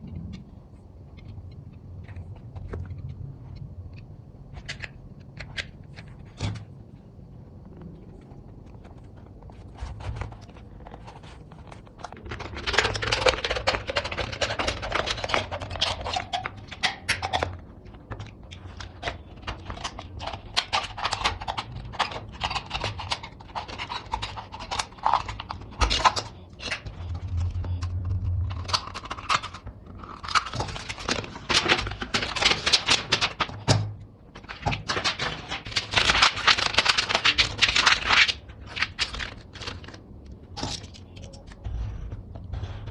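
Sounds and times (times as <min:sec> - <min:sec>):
scraping and rustling: 0:07.6 - 0:42.9.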